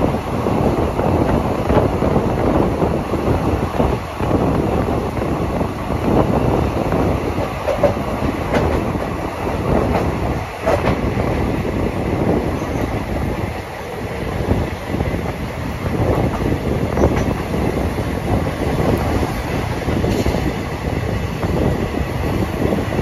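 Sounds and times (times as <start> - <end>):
clickety-clack of rail joints: 0.0 - 23.0
train wheels rumbling on track: 0.0 - 23.0.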